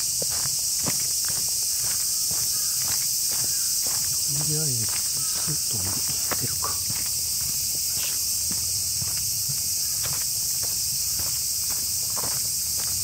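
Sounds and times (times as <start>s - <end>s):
footsteps crunching dry leaves: 0.0s - 13.0s
insects hissing loudly: 0.0s - 13.0s.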